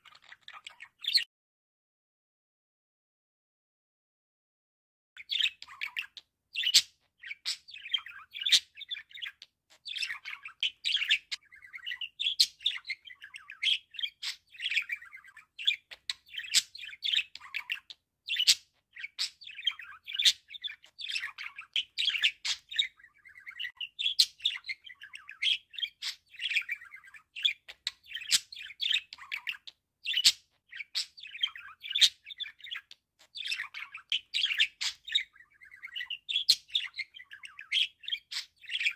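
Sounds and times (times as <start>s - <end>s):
budgerigar chattering: 5.2s - 38.9s.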